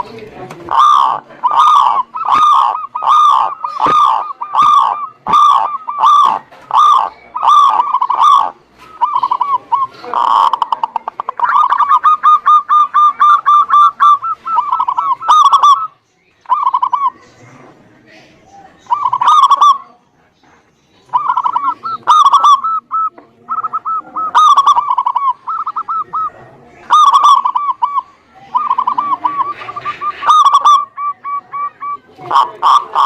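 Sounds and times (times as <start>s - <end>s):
doves cooing: 0.0s - 20.0s, 21.0s - 33.0s.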